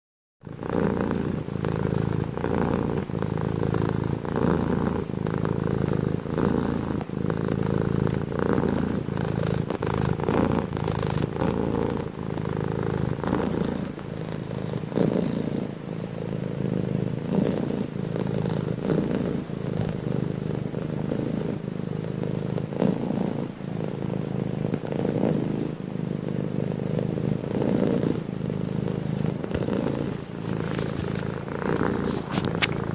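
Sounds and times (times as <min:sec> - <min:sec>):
cat purring: 0:00.4 - 0:32.9.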